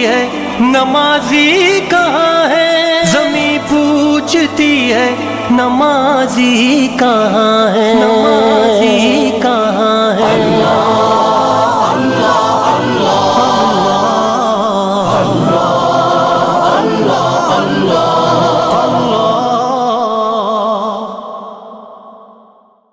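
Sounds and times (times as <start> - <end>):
voices singing devotional song: 0.0 - 22.6.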